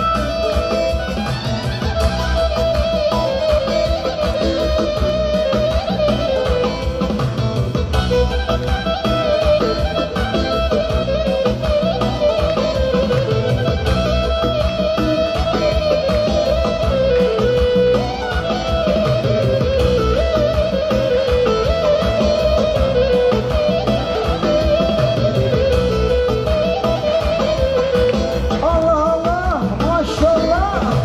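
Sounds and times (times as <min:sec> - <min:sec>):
wavering lead melody: 0:00.0 - 0:31.0.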